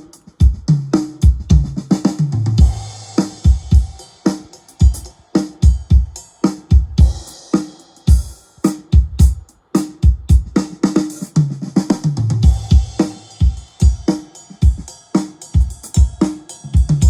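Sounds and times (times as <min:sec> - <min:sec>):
cymbals: 0:02.1 - 0:11.4, 0:12.4 - 0:17.0.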